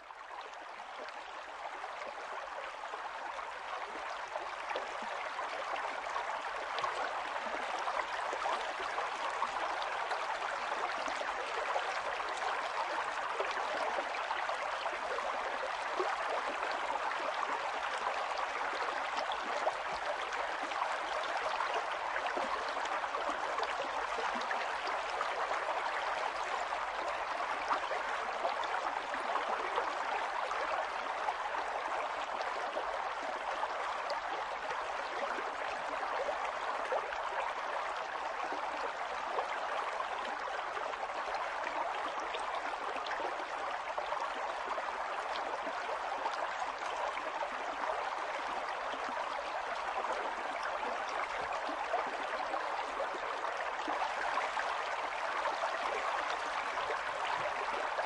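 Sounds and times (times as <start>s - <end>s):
river flowing water: 0.0s - 58.0s.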